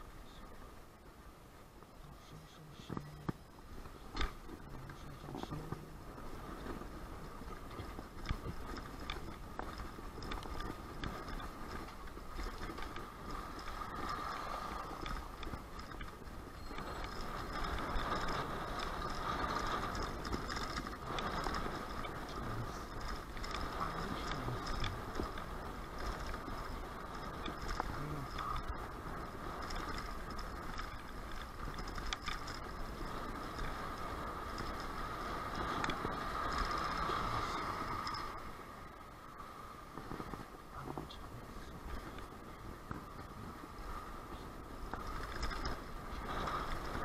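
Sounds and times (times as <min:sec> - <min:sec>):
wind buffeting microphone: 0:02.8 - 0:47.0.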